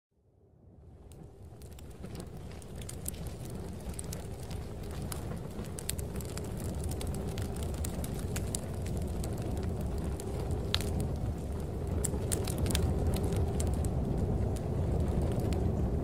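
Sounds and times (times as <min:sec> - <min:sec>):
low rumble of storm wind: 0:00.2 - 0:16.0
fire crackling and popping: 0:00.9 - 0:16.0.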